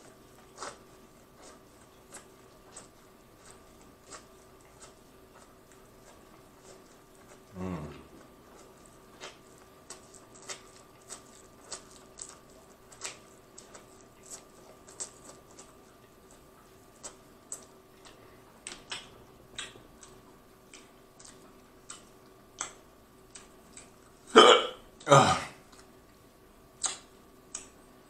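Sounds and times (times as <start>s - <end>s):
chewing corn on the cob: 0.0s - 24.3s, 24.9s - 28.0s.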